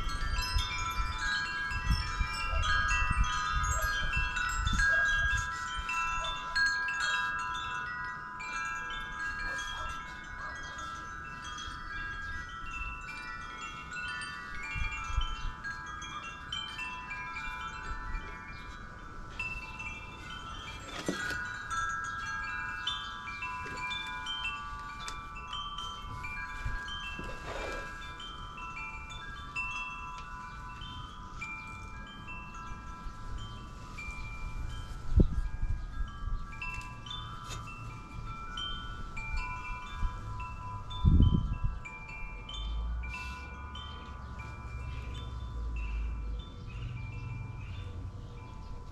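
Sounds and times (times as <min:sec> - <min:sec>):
wind chimes ringing: 0:00.0 - 0:48.9.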